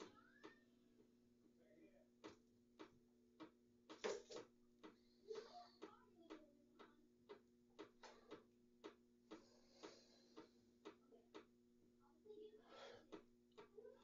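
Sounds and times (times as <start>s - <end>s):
faint regular ticking: 2.2s - 14.0s.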